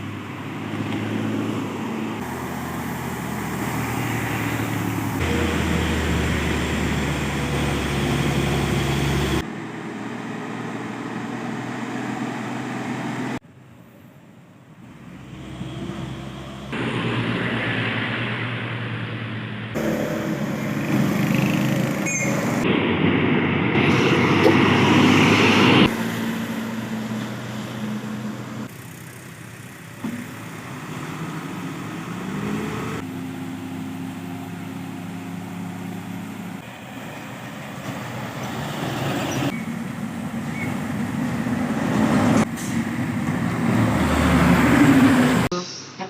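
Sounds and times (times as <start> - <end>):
diesel truck engines labouring: 0.0 - 46.0.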